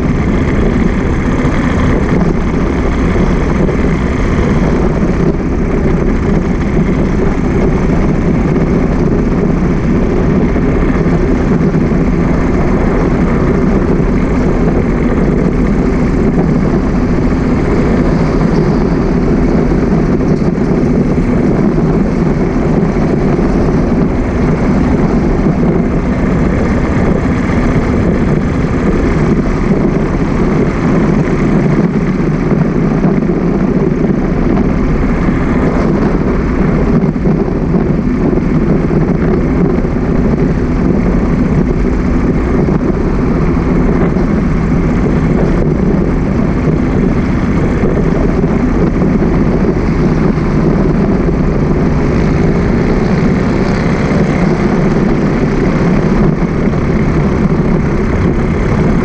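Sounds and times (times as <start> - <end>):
road noise: 0.0 - 59.0
vehicle engine noise: 0.0 - 59.0
wind rush: 0.0 - 59.0.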